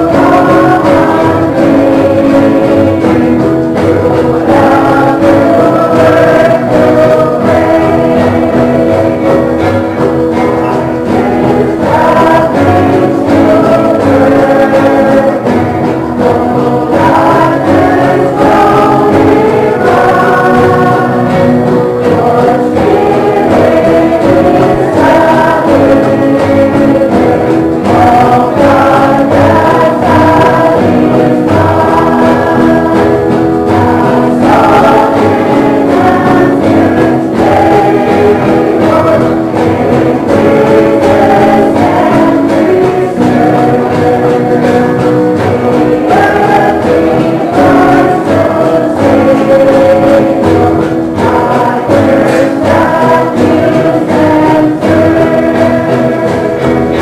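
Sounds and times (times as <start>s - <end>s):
choir singing sustained chords: 0.0s - 57.0s.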